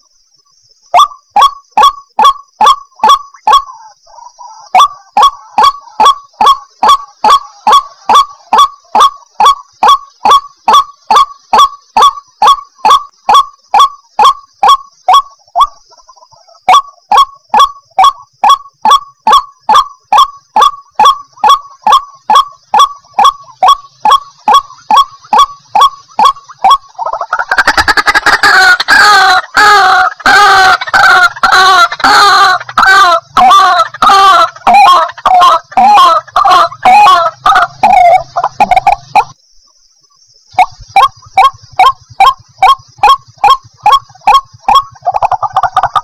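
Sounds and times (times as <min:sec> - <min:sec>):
waterhen calling harsh notes: 0:01.0 - 0:39.4, 0:40.5 - 0:46.0.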